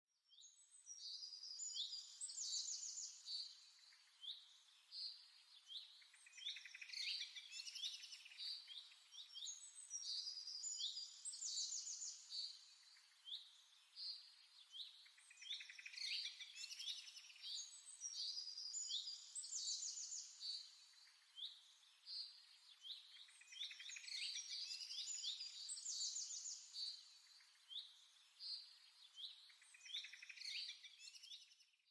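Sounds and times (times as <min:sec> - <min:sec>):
small birds chirping and singing: 0:00.2 - 0:31.9.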